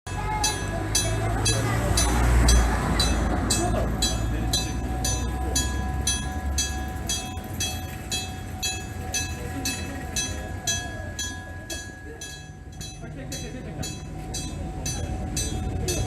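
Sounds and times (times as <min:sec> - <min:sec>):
level crossing bell ringing rapidly: 0:00.1 - 0:16.0
train rumble: 0:00.1 - 0:16.0.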